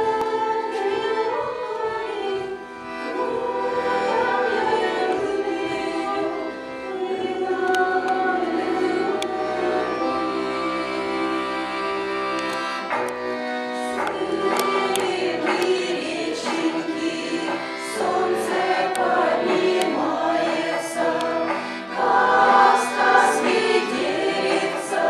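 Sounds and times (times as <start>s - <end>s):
button accordion: 0.0s - 25.0s
folk choir singing in harmony: 0.0s - 25.0s.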